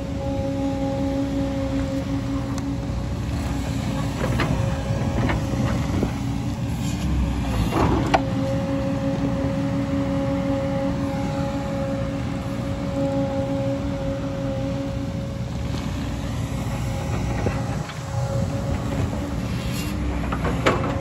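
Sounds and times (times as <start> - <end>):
excavator diesel engine: 0.0 - 21.0
hydraulic whine: 0.0 - 21.0.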